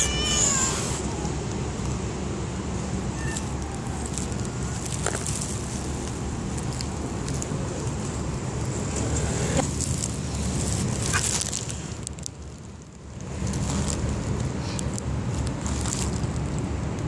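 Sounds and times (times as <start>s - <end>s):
low outdoor rumble and hiss: 0.0s - 17.0s.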